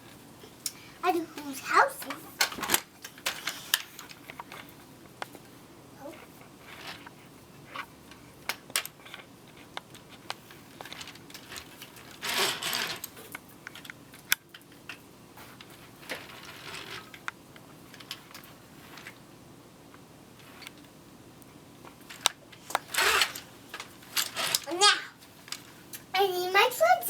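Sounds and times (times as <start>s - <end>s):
rustling clatter: 1.2s - 19.3s, 21.8s - 26.1s.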